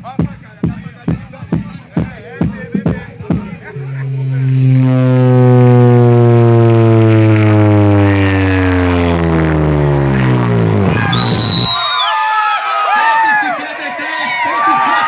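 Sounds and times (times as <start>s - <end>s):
loud bass tone from car speakers: 0.0s - 12.1s.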